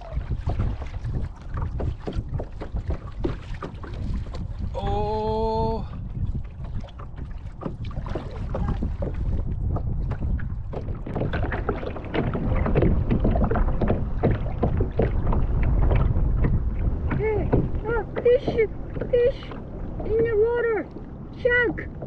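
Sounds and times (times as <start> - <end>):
paddle splashing water: 0.0 - 22.0
wind rumbling on microphone: 0.0 - 22.0.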